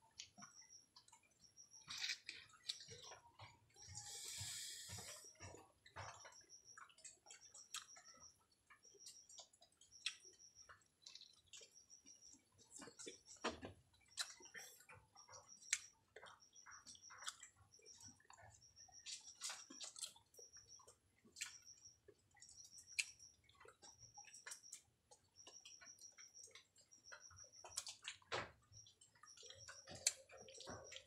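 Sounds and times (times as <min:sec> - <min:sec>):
person chewing honeycomb: 0:00.1 - 0:31.0.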